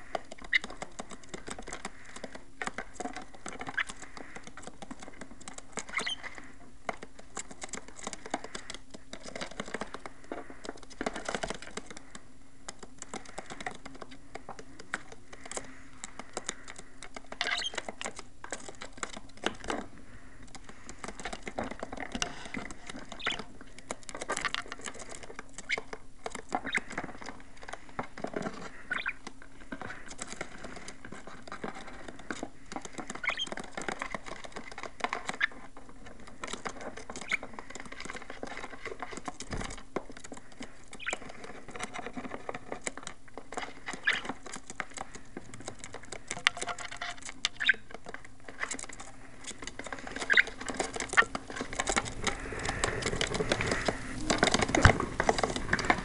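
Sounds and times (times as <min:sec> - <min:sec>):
budgies scratching and tapping: 0:00.0 - 0:56.0.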